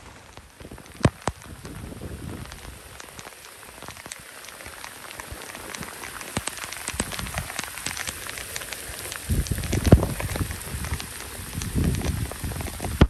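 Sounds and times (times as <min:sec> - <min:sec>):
rain hiss: 0:00.0 - 0:13.0
sharp raindrop hits: 0:00.0 - 0:13.0.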